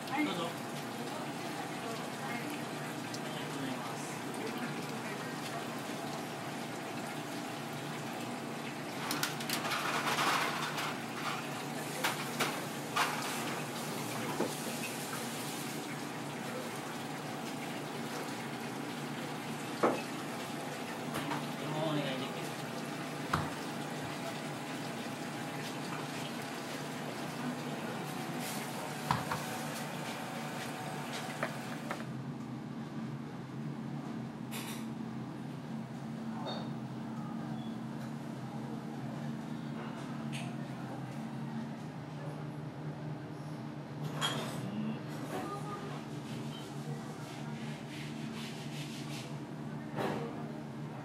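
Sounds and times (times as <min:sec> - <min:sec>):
steady kitchen hum: 0:00.0 - 0:51.0.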